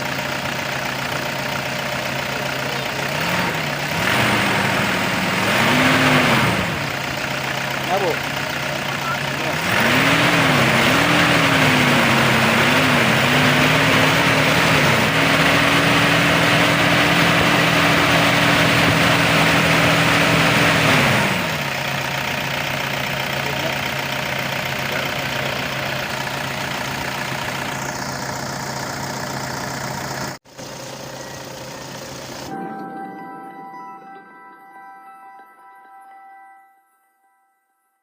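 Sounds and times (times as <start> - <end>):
diesel engine running: 0.0 - 36.2.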